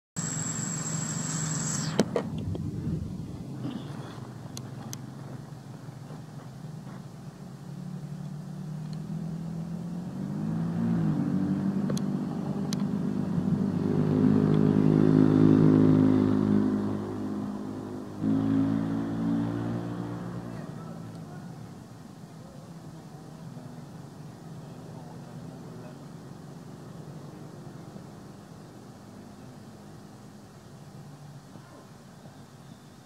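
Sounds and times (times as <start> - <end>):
vehicle engine running: 0.2 - 32.0.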